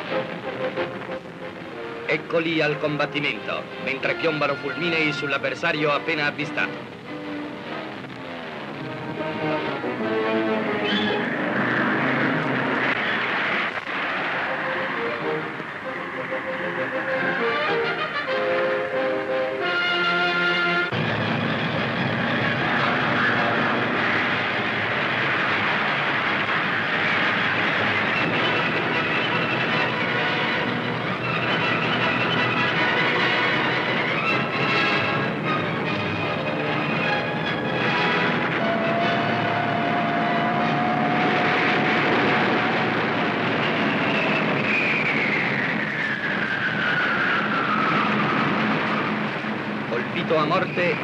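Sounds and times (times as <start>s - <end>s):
high falling whine: 0.0s - 19.4s, 20.9s - 51.0s
propeller aircraft engines droning: 0.0s - 51.0s.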